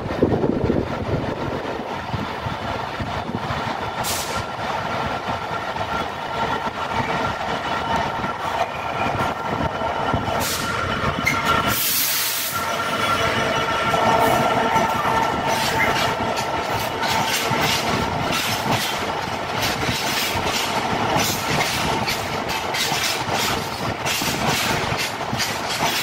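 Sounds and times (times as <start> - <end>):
diesel locomotive engine running: 0.0 - 26.0
train wheel squeal: 4.0 - 26.0.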